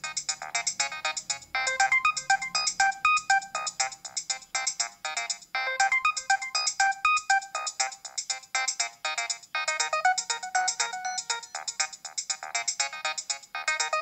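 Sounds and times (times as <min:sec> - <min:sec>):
mobile phone ringtone: 0:00.1 - 0:14.0.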